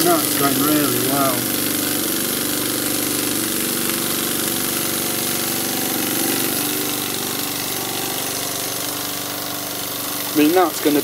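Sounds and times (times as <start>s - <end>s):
exhaust steam hissing: 0.0s - 11.0s
steam engine beating: 0.0s - 11.0s.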